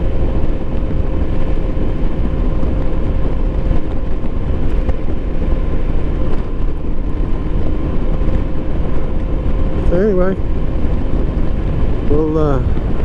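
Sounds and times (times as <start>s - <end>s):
motorcycle engine and road noise: 0.0s - 13.0s
wind rush: 0.0s - 13.0s.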